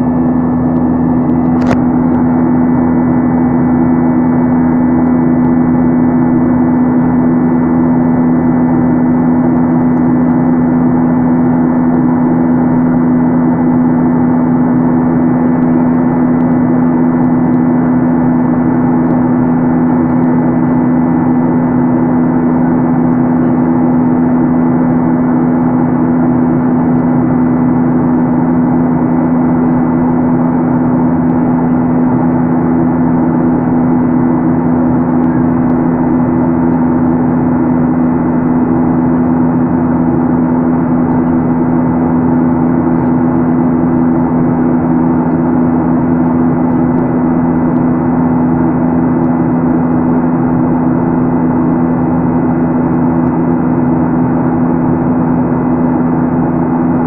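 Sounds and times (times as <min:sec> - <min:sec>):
airplane cabin engine hum: 0:00.0 - 0:57.0.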